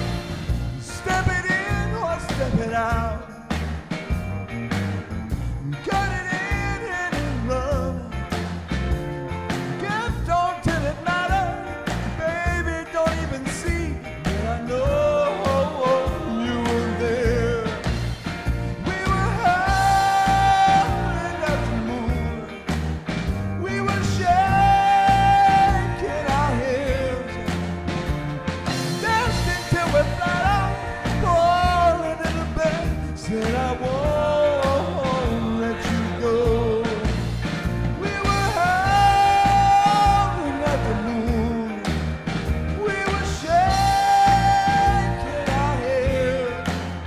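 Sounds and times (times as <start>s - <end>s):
rock backing track: 0.0s - 47.0s
man singing into a microphone: 0.7s - 3.5s, 5.6s - 8.4s, 9.8s - 18.1s, 18.7s - 22.8s, 23.5s - 27.5s, 29.0s - 37.3s, 37.9s - 47.0s.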